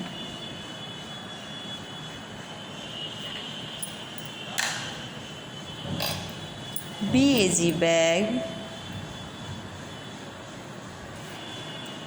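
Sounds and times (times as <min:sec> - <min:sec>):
droning background noise: 0:00.0 - 0:12.0.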